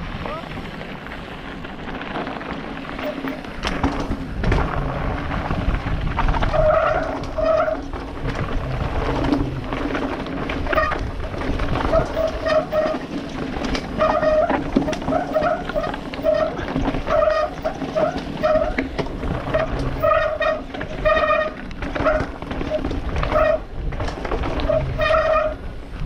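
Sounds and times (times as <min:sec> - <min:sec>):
bike rattling: 0:00.0 - 0:26.0
tyres crunching over dirt and stones: 0:00.6 - 0:26.0.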